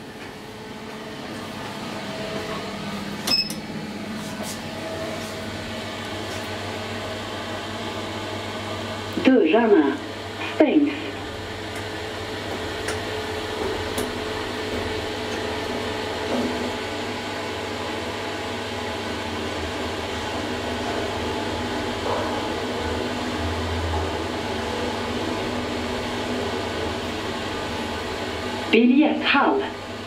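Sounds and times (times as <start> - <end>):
elevator hum and whir: 0.0 - 30.0.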